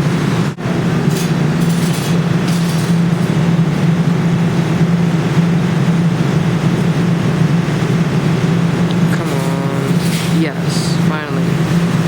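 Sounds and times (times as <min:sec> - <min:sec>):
continuous rumbling: 0:00.0 - 0:12.0
low machine hum: 0:00.0 - 0:12.0.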